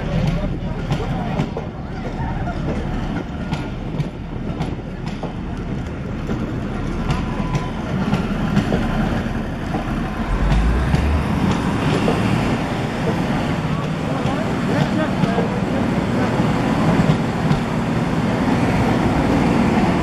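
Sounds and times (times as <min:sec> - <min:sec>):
train wheels clicking over rail joints: 0:00.0 - 0:19.6
train rumbling: 0:00.0 - 0:20.0.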